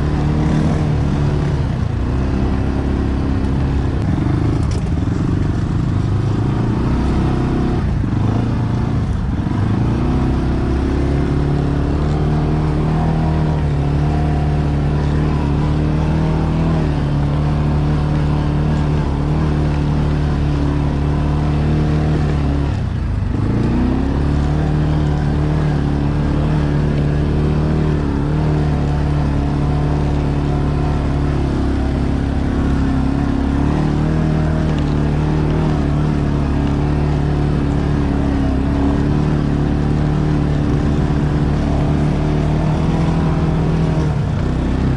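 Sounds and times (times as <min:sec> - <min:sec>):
atv engine running: 0:00.0 - 0:44.9.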